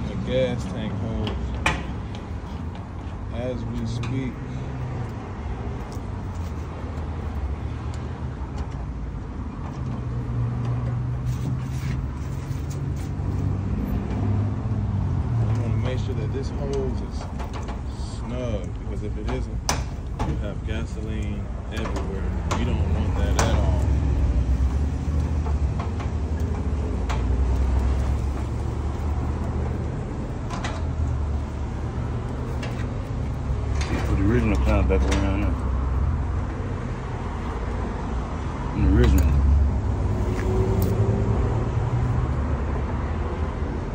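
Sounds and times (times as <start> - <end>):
vehicle engine humming: 0.0 - 43.9.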